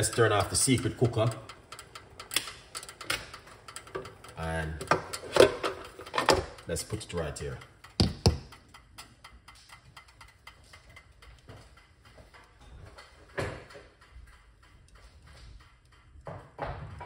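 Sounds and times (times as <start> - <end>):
faint ticks and clicks: 0.0 - 17.0.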